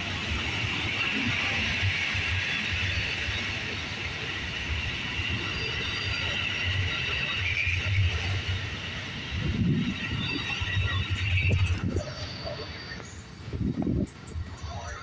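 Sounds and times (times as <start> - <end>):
train cars rumbling on rails: 0.0 - 15.0.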